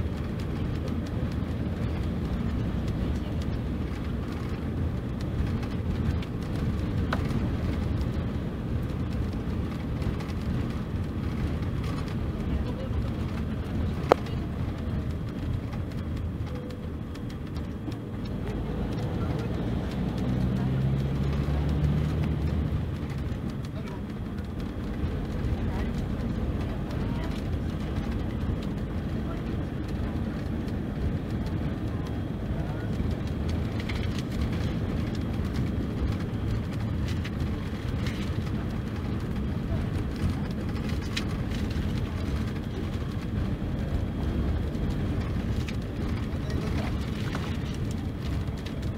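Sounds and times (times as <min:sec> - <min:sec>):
diesel engine rumbling: 0:00.0 - 0:48.9
light rattles: 0:00.0 - 0:48.9.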